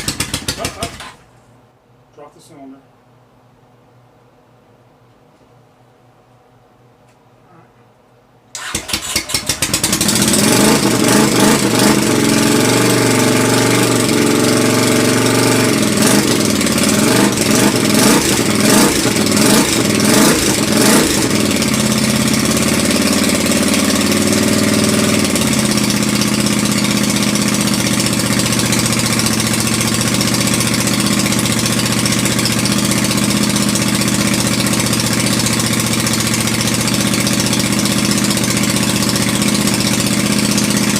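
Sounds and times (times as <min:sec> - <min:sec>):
motorcycle engine starting and revving: 0:00.0 - 0:01.3, 0:08.6 - 0:40.9.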